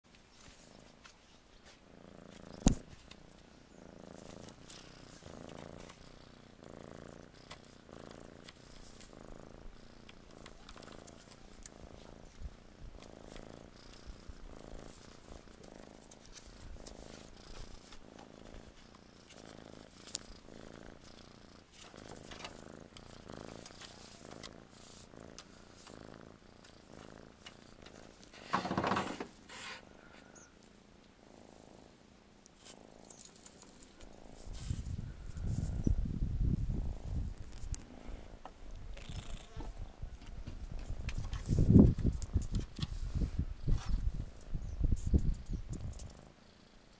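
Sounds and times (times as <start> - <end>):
cat purring: 0.3 - 46.9.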